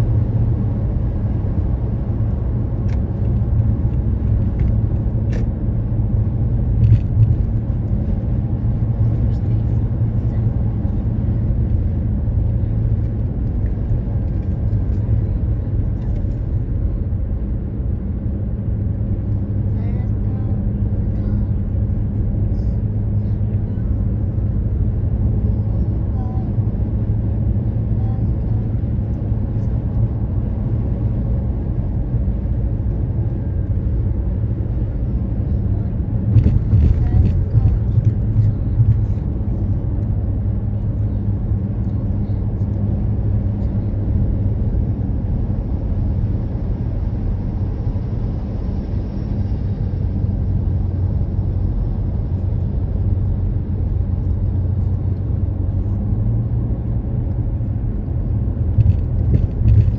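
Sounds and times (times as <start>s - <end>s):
road and engine rumble in car: 0.0s - 59.9s.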